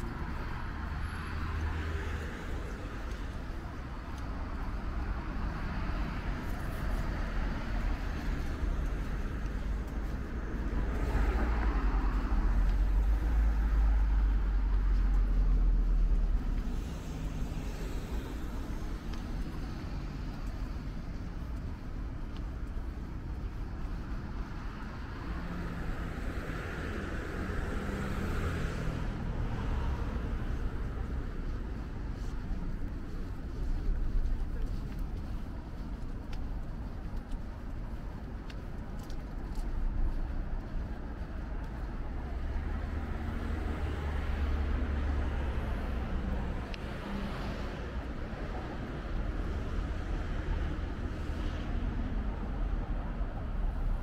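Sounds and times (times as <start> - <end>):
cars passing by: 0.0 - 54.0.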